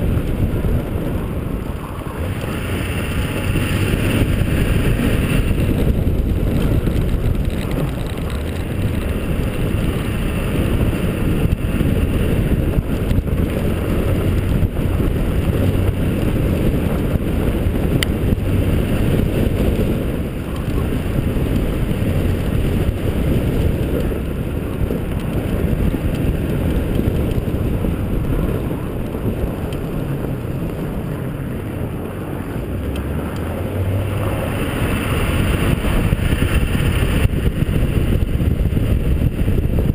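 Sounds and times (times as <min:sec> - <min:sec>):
road noise: 0:00.0 - 0:39.9
wind buffeting camera: 0:00.0 - 0:39.9.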